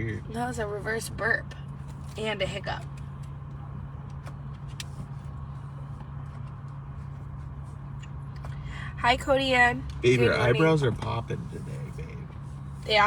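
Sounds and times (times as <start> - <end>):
car engine hum inside cabin: 0.0 - 13.0
road noise: 0.0 - 13.0.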